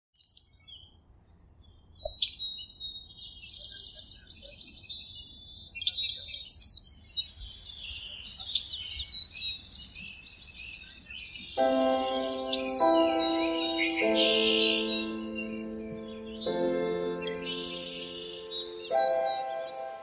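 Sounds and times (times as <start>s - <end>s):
songbirds chirping and trilling: 0.2s - 20.0s.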